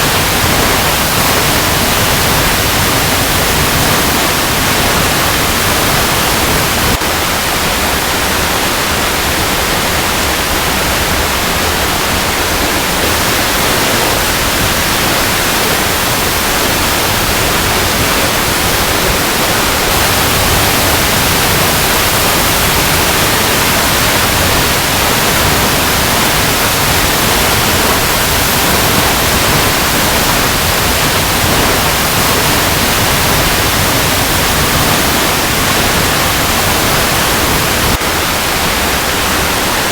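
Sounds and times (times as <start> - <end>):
waterfall rushing over rocks: 0.0 - 39.9.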